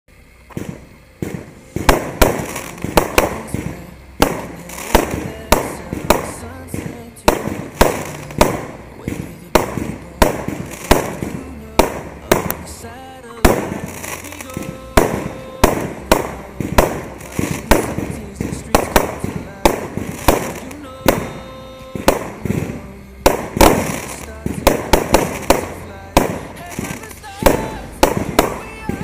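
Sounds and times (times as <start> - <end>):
fireworks bangs echoing: 0.4 - 29.0.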